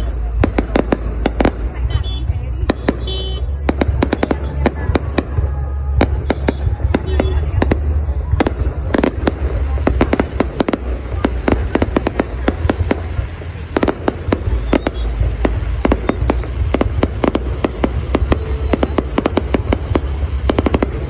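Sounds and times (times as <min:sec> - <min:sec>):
deep rumble: 0:00.0 - 0:21.0
fireworks bangs and cracks: 0:00.0 - 0:21.0.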